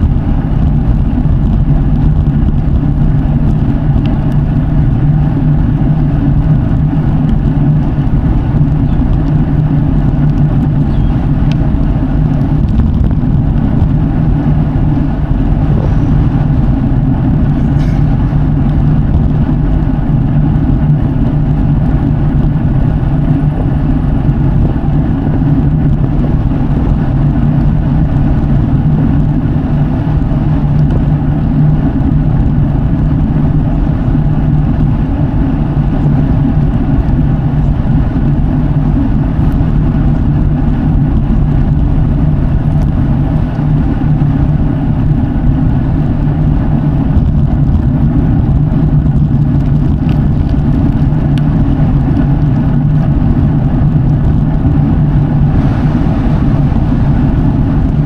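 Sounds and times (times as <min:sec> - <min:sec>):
bike tyres rolling on road: 0:00.0 - 0:58.0.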